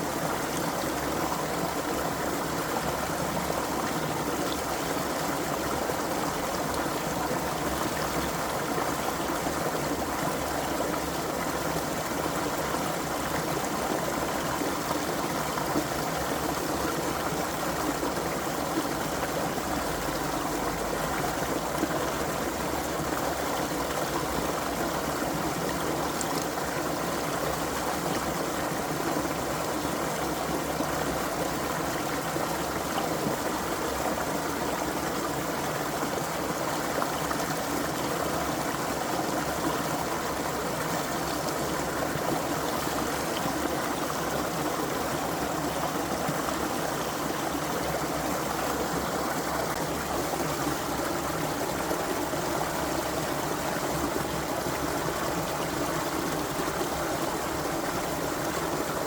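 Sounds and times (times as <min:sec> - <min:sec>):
creek babbling over stones: 0:00.0 - 0:59.0.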